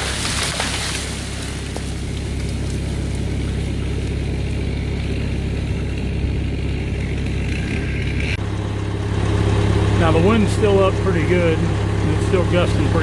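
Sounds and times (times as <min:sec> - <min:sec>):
diesel engine running: 0:00.0 - 0:13.0
high whine: 0:00.0 - 0:13.0.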